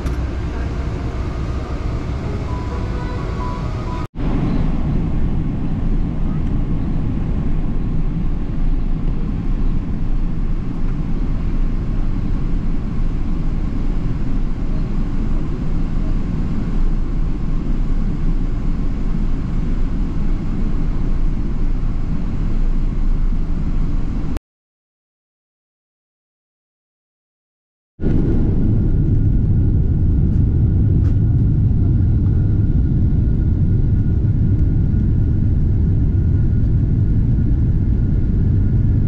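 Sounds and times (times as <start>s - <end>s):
airliner cabin engine rumble: 0.0s - 24.4s, 28.0s - 39.0s.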